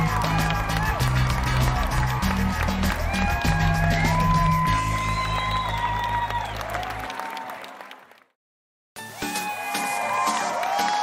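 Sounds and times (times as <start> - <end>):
applause: 0.0 - 8.4, 9.4 - 11.0
crowd cheering: 0.0 - 8.4, 9.0 - 11.0.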